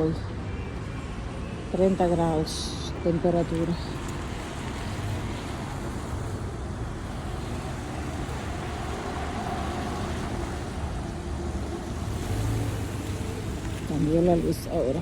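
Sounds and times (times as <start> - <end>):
traffic rumble on wet road: 0.0 - 15.0.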